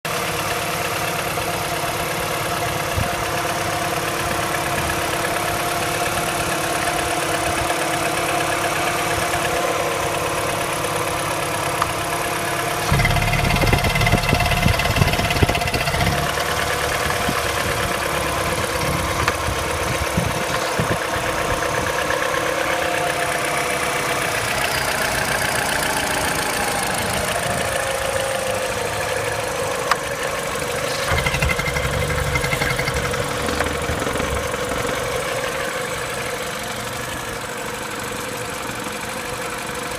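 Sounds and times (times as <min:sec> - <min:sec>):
car engine idling with ticking: 0:00.1 - 0:39.9.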